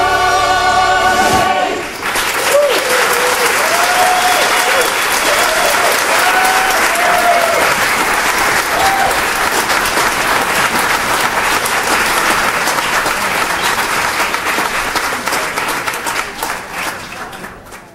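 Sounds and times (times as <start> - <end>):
people cheering: 1.1 - 17.9
audience applauding: 1.4 - 17.9.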